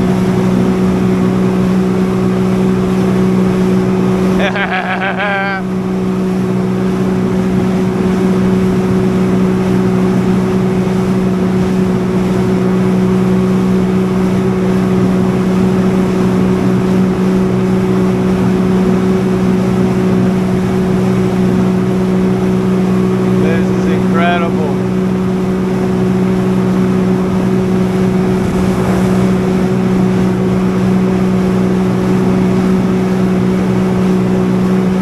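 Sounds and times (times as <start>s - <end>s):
jet ski engine humming: 0.0s - 35.0s.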